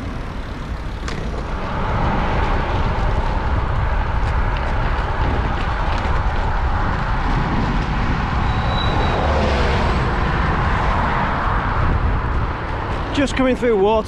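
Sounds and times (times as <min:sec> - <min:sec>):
vehicle passing by: 0:00.0 - 0:13.2
road traffic noise: 0:00.0 - 0:14.0
wind buffeting microphone: 0:00.0 - 0:14.0.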